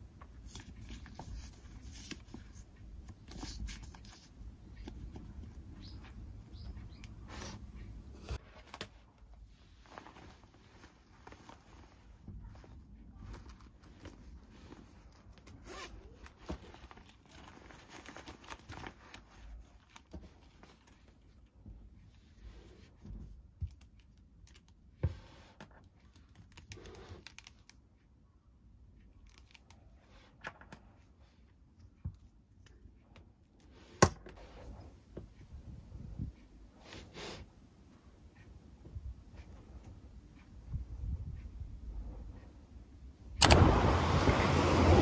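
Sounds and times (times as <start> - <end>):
rustling and handling noises: 0.0 - 43.4.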